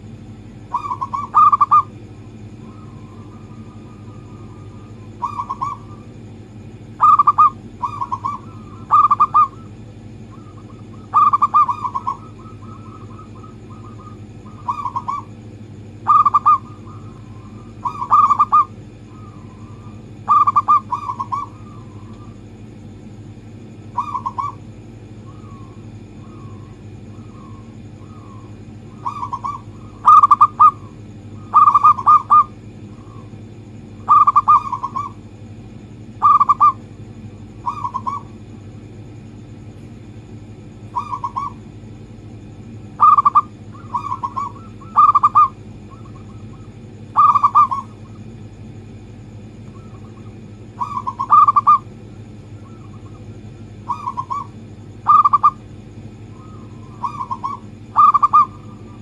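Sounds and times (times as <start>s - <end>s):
dove cooing: 0.0s - 35.4s, 36.1s - 38.7s, 40.8s - 48.4s, 49.3s - 59.0s
steady low hum: 0.0s - 59.0s.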